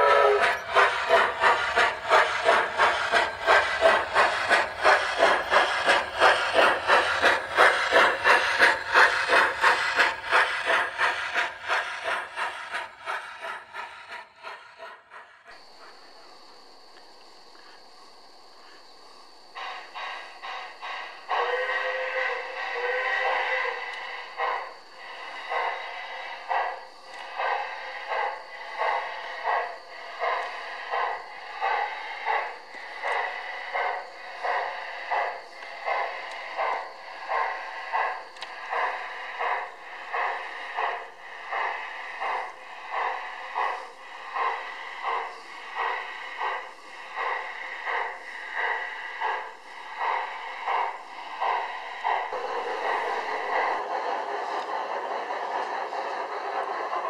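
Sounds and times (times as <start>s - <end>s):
model steam locomotive chuffing: 0.0s - 57.0s.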